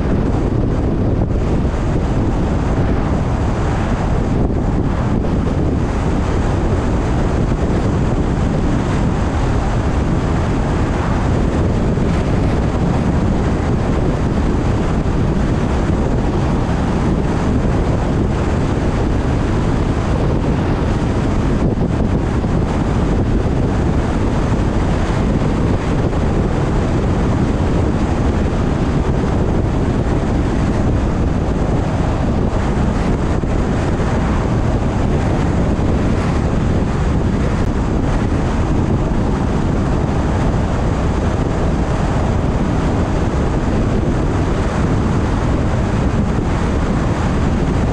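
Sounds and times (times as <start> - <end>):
car road and wind noise: 0.0 - 47.9.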